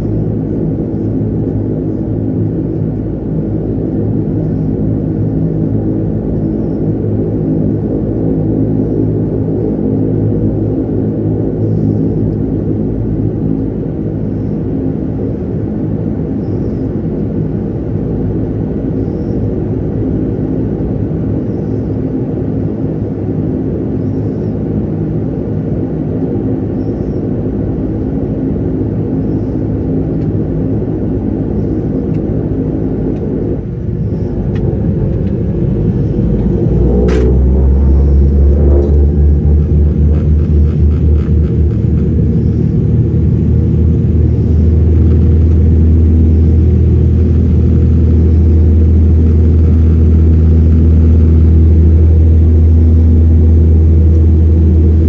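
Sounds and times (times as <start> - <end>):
deep low drone: 0.0 - 55.0
turboprop engines droning: 0.0 - 55.0.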